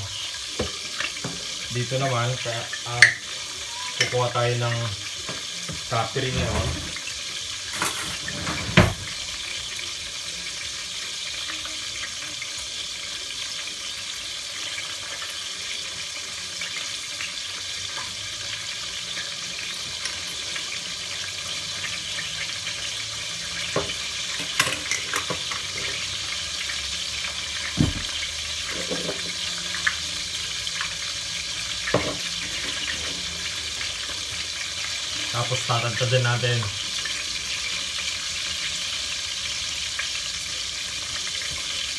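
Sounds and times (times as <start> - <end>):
meat sizzling in oil: 0.0 - 41.9.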